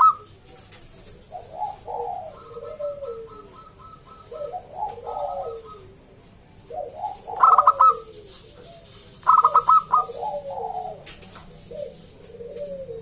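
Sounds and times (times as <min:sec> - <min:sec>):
dove staccato coos: 0:00.0 - 0:13.0
soft falling dove coos: 0:00.0 - 0:13.0.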